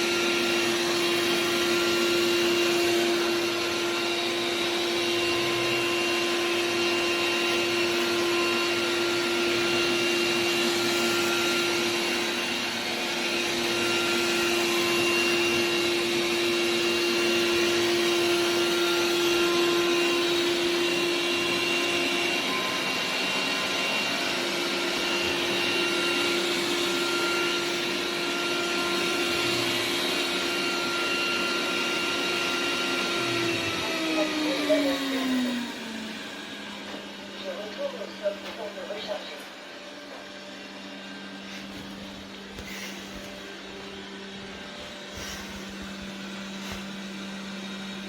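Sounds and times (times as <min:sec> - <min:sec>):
robot vacuum running: 0:00.0 - 0:48.0.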